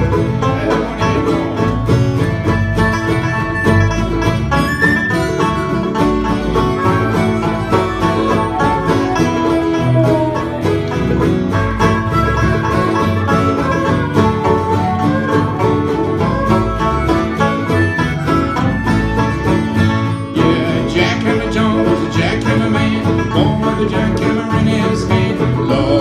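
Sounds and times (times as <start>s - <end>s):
acoustic guitar: 0.0s - 26.0s
banjos picking: 0.0s - 26.0s.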